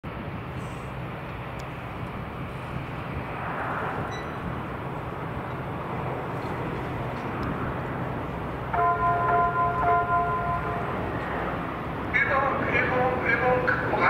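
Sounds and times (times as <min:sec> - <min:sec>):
distant jet aircraft rumble: 0:00.0 - 0:14.0.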